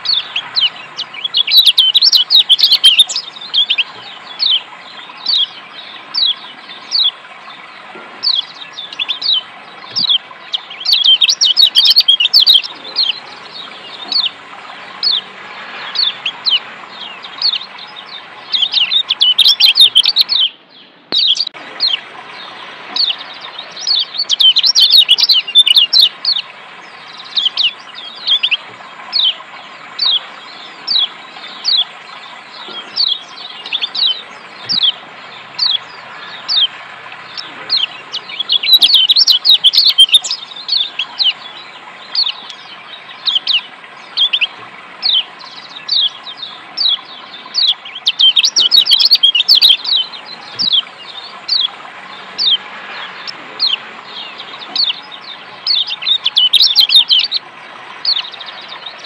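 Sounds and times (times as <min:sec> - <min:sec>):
bird chirping calls: 0:00.0 - 0:59.0
running water: 0:00.0 - 0:59.0.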